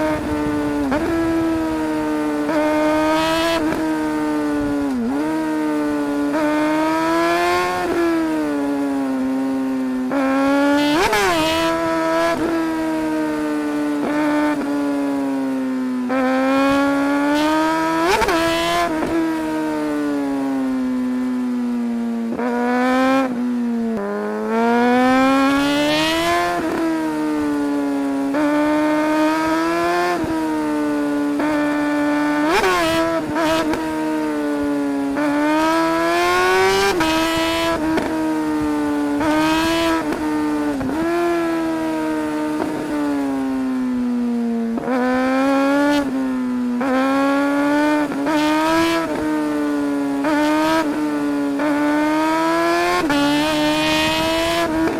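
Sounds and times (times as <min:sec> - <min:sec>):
motorcycle engine accelerating hard: 0:00.0 - 0:54.9.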